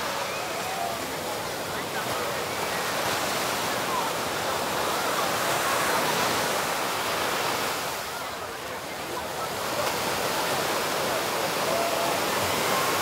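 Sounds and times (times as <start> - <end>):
surf rushing: 0.0 - 13.0.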